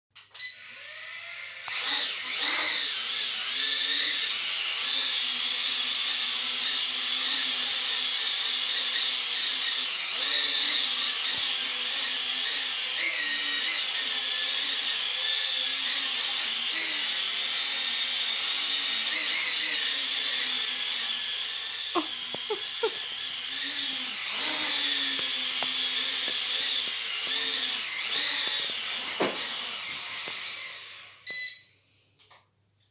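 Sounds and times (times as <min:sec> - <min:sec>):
drone motors whining: 0:00.6 - 0:31.2.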